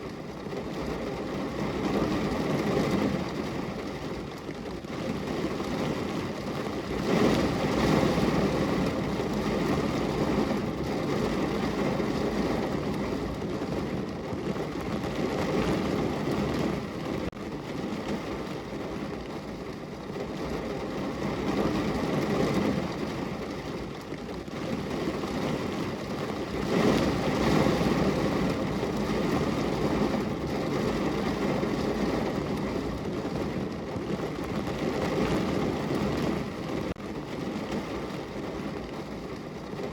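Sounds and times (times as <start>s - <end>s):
rain on car window: 0.0s - 39.9s.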